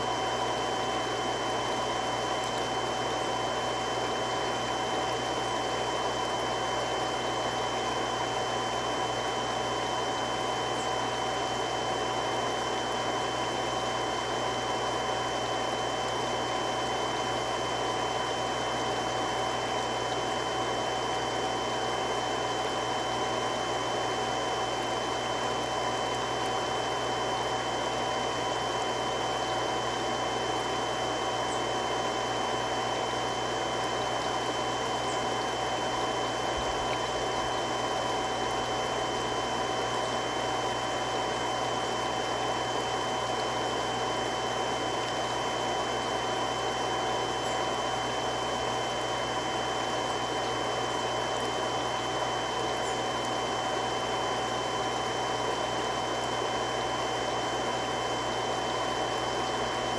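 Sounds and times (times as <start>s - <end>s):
water pump running: 0.0s - 59.9s.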